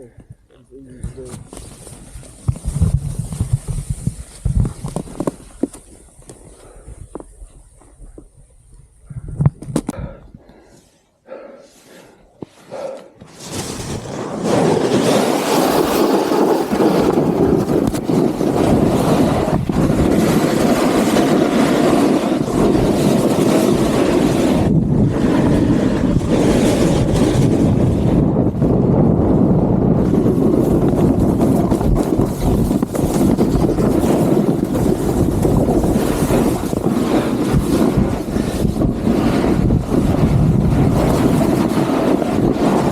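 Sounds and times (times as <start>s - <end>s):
wind rushing over microphone: 0.0s - 10.5s, 13.4s - 42.9s
skis scraping on snow: 1.2s - 8.4s, 11.7s - 28.2s, 29.8s - 42.9s.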